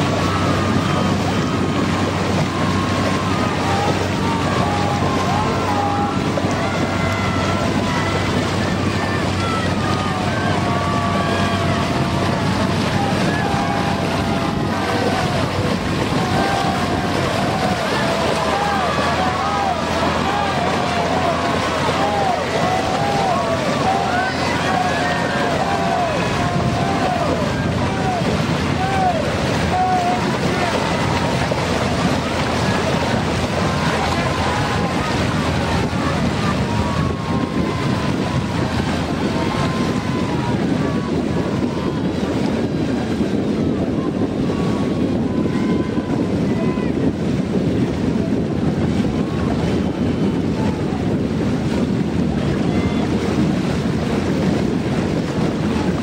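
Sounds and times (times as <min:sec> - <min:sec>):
distant shouts from spectators: 0:00.0 - 0:56.0
water rushing past hull: 0:00.0 - 0:56.0
wind noise on microphone: 0:00.0 - 0:56.0.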